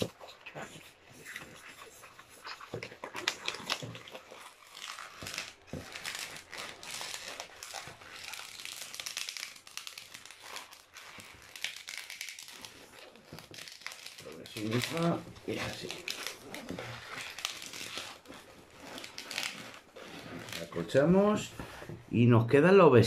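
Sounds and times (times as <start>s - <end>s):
rubber balloon squeaking: 0.0s - 22.2s.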